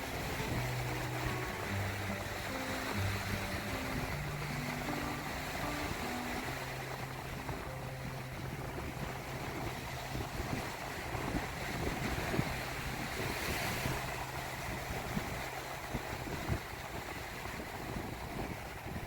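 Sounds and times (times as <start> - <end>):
low steady drone: 0.0 - 19.0
small waves washing onto beach: 0.0 - 19.0
wind on microphone: 0.0 - 19.0.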